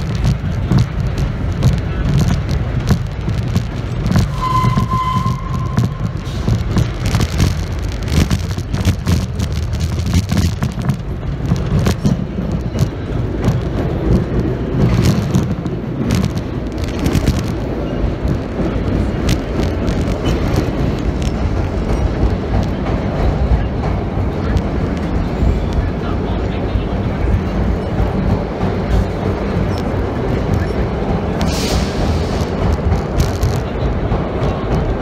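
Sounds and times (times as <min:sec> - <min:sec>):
sharp clicks and clatter: 0:00.0 - 0:35.0
subway train rumbling in tunnel: 0:00.0 - 0:35.0.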